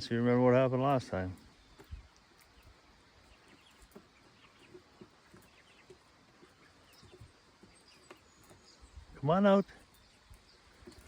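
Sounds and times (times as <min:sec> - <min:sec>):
chickens clucking softly: 0:00.0 - 0:11.0.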